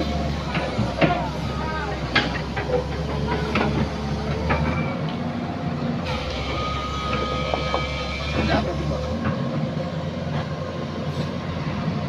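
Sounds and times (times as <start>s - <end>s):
diesel engine drone: 0.0s - 12.0s
hydraulics whining: 0.0s - 12.0s.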